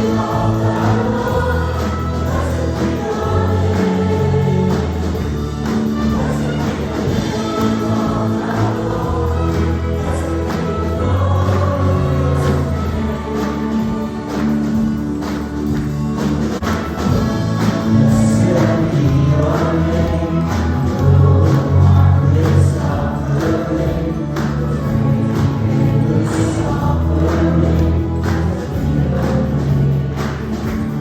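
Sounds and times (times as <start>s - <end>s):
group singing worship song: 0.0s - 31.0s
instrumental backing with beat: 0.0s - 31.0s.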